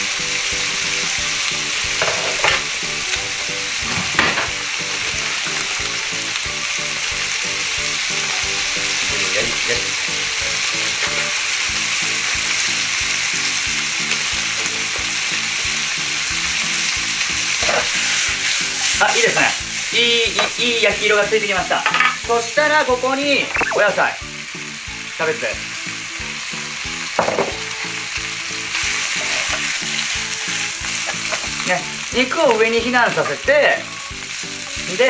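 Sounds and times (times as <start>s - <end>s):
pork sizzling in a frying pan: 0.0s - 35.0s.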